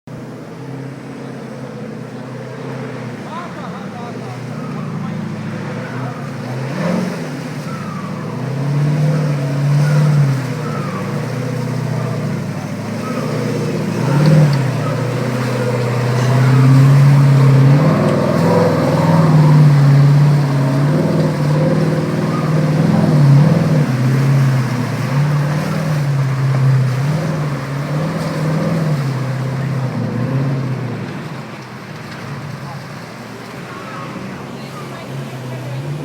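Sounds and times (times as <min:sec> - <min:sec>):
engine revving under throttle: 0:00.1 - 0:36.0.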